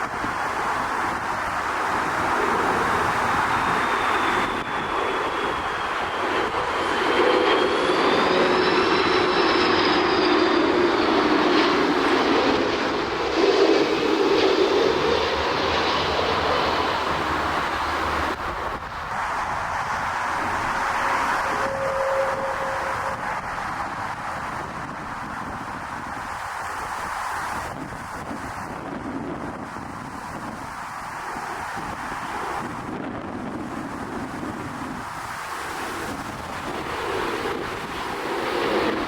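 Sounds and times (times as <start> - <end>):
jet engine roar and whine: 0.0 - 39.0.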